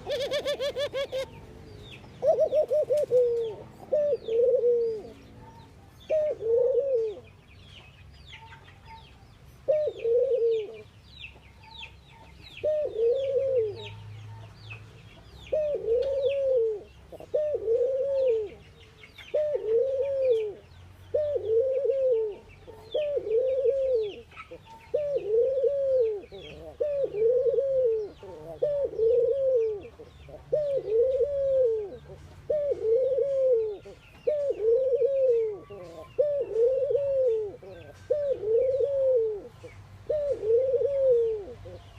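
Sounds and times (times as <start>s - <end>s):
dove cooing: 0.0s - 1.4s, 2.2s - 7.3s, 9.6s - 10.9s, 12.6s - 14.0s, 15.5s - 41.9s
small birds chirping: 0.0s - 41.9s.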